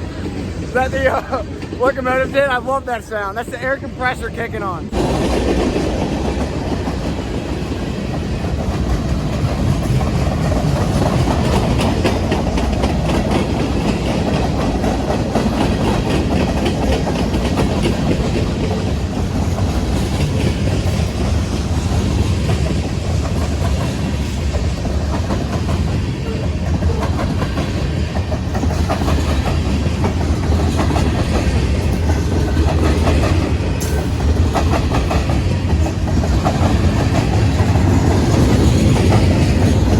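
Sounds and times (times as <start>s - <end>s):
train wheels rolling on rails: 0.0s - 39.9s
wheels clacking over rail joints: 4.9s - 39.9s.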